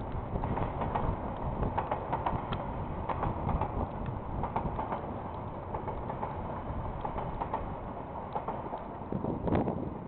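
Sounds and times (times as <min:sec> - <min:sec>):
train rumbling past: 0:00.0 - 0:10.0
train wheels clicking and knocking: 0:00.0 - 0:10.0.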